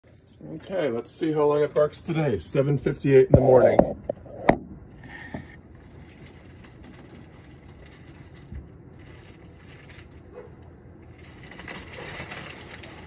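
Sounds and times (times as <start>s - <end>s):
low background rumble: 0.1s - 13.0s.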